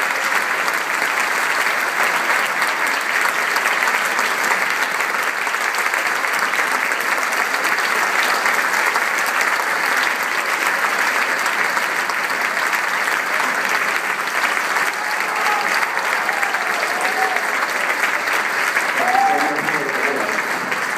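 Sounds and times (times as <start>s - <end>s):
audience applauding: 0.0s - 20.9s.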